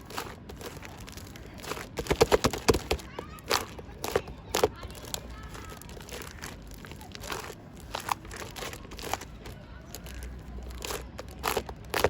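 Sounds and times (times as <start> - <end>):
slime being kneaded: 0.0 - 12.0.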